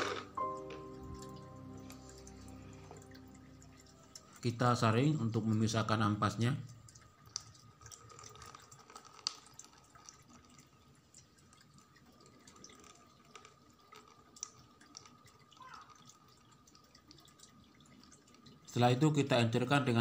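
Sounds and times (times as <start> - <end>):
juice dripping and trickling: 0.1 - 20.0.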